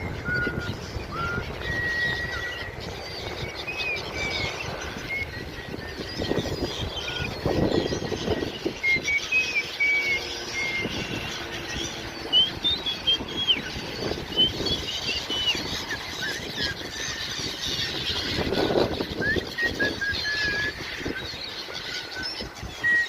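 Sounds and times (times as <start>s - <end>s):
gulls calling: 0.0s - 23.0s.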